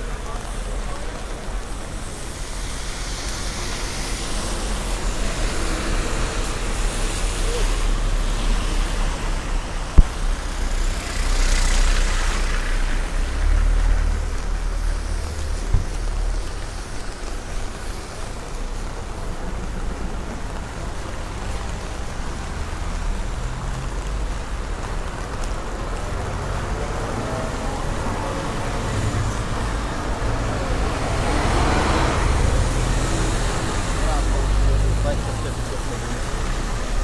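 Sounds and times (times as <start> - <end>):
heavy rain: 0.0 - 37.0
road traffic on wet street: 0.0 - 37.0
tyres hissing on wet road: 0.0 - 37.0.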